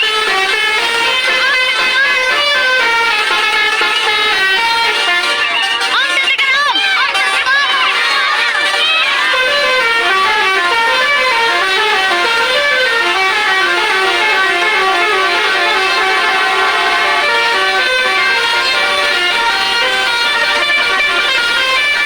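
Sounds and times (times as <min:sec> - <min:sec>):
bus horns playing a melody: 0:00.0 - 0:22.0.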